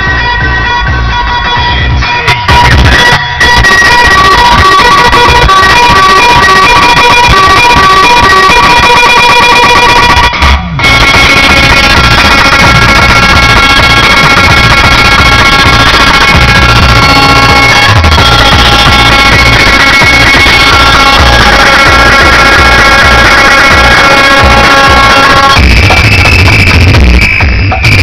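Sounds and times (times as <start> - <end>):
loud music with drums: 0.0 - 28.0.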